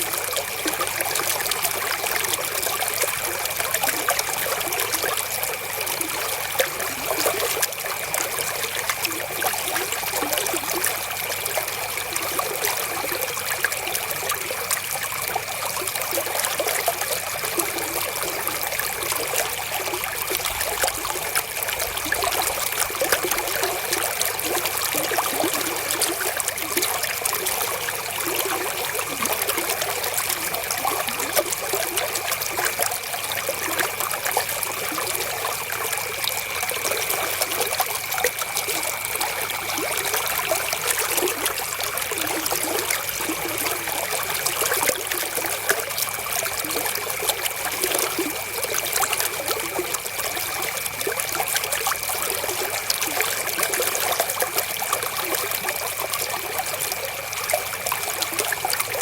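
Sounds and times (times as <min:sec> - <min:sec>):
river water trickling and babbling: 0:00.0 - 0:59.0.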